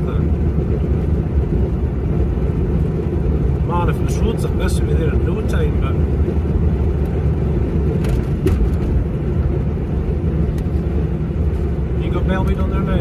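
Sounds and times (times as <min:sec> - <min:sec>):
car engine rumble: 0:00.0 - 0:13.0
tyres on tarmac: 0:00.0 - 0:13.0.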